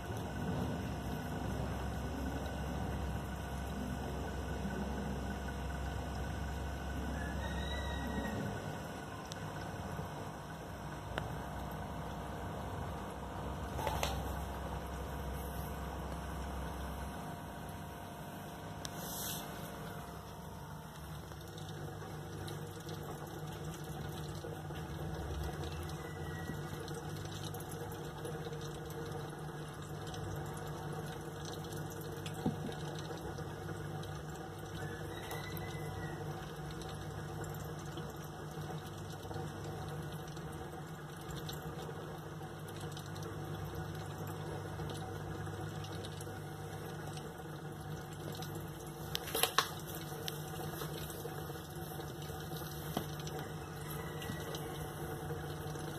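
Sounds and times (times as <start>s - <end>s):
aquarium filter water flow: 0.0s - 55.9s
low even hum: 0.0s - 55.9s.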